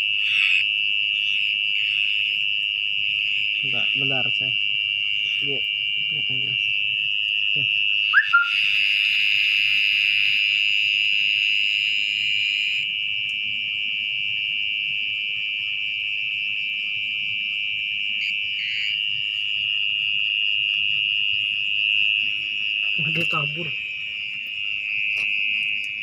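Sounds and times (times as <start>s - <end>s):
mole cricket buzzing: 0.0s - 12.9s, 16.5s - 26.0s.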